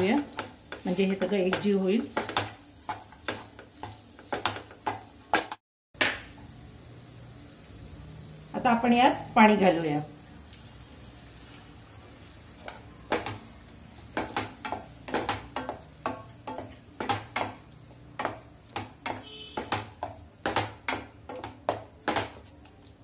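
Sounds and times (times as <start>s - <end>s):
water sizzling in hot pan: 0.0s - 23.0s.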